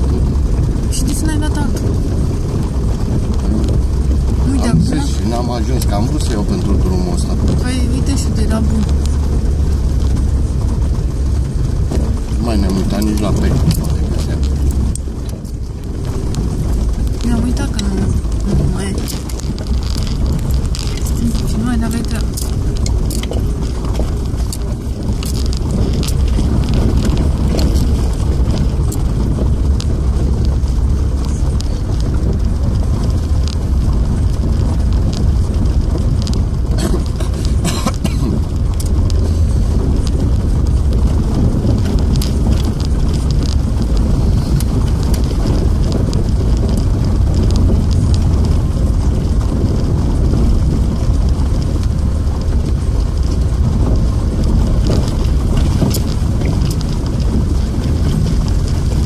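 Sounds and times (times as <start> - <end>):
stones clicking under wheels: 0.0 - 59.0
tyres and engine rumbling: 0.0 - 59.0.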